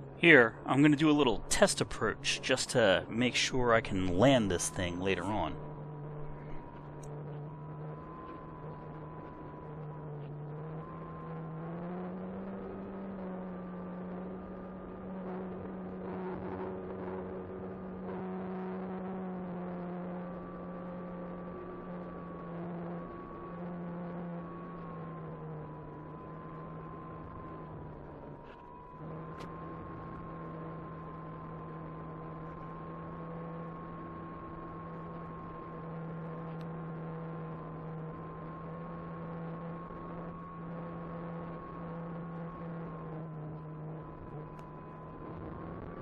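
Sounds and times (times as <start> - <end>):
model plane electric motor whine: 5.6 - 46.0.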